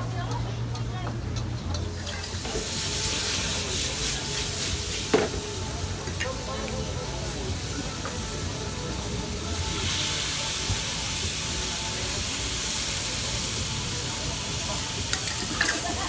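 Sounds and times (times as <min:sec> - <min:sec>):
food sizzling on griddle: 0:01.7 - 0:16.0.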